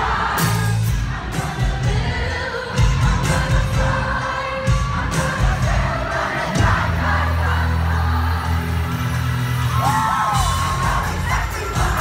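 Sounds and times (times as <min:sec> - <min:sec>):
bass-heavy backing track: 0:00.0 - 0:12.0.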